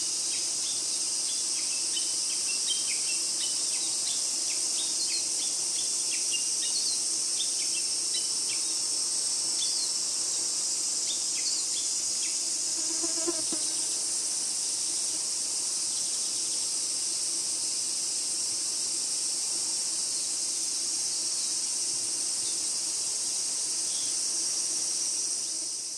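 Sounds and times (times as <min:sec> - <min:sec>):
insect chorus: 0:00.0 - 0:25.9.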